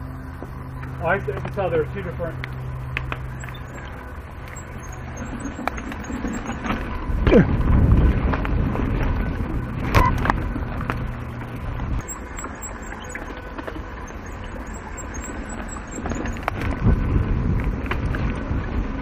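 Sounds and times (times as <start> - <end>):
bike rattles and knocks: 0.0 - 19.0
wind rumble on microphone: 0.0 - 19.0.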